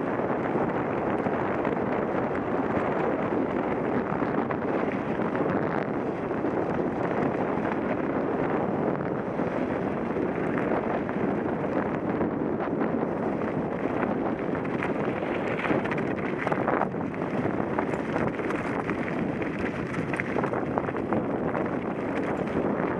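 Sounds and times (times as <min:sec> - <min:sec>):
wind on microphone: 0:00.0 - 0:22.9
bike rattling: 0:00.2 - 0:22.9.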